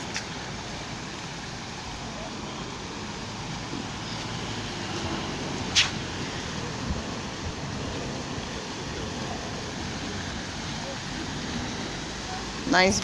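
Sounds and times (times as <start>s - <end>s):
fountain water pouring: 0.0s - 13.0s.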